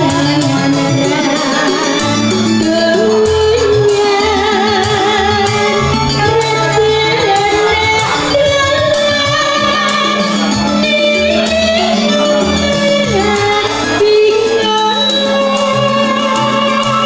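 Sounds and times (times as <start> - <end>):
electronic keyboard accompaniment: 0.0 - 17.0
woman singing with vibrato: 0.0 - 17.0.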